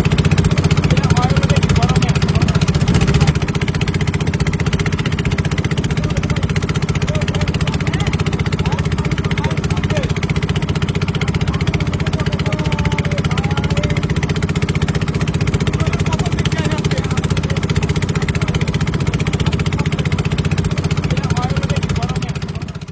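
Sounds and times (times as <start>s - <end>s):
small engine running: 0.0s - 22.9s.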